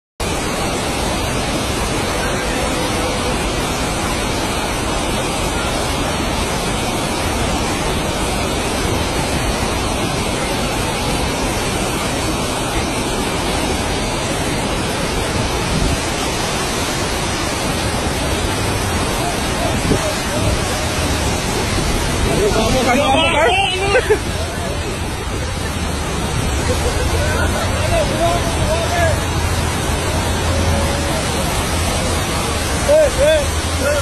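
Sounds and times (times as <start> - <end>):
floodwater rushing: 0.2 - 34.0.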